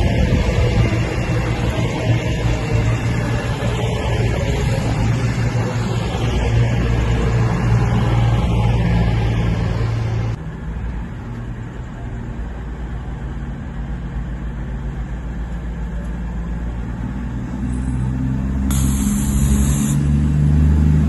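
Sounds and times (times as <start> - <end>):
train engine rumbling: 0.0 - 21.0.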